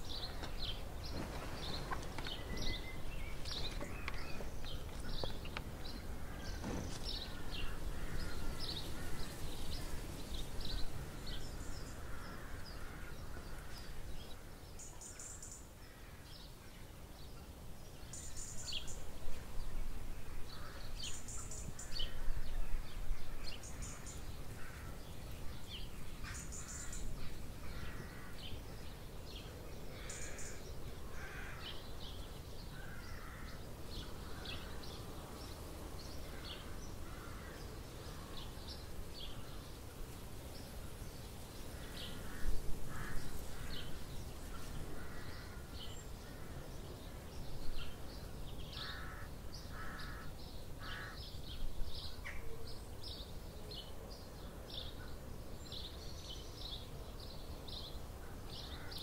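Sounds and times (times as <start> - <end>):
birds chirping: 0.0 - 53.4.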